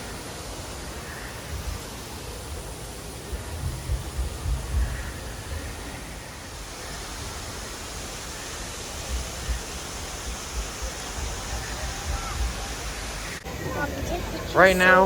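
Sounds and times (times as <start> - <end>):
steady rushing noise: 0.0 - 15.0
wind buffeting microphone: 0.6 - 15.0.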